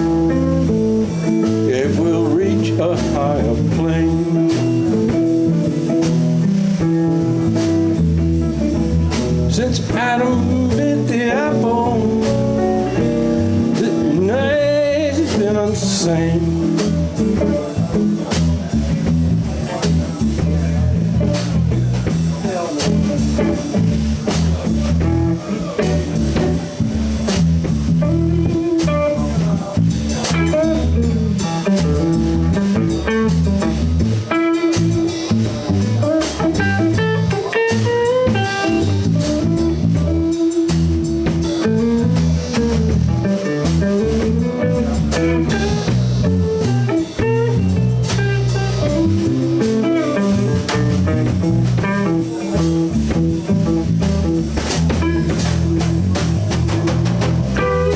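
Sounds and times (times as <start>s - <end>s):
bass guitar: 0.0s - 57.9s
drum kit: 0.0s - 57.9s
lead guitar with bent notes: 0.0s - 57.9s.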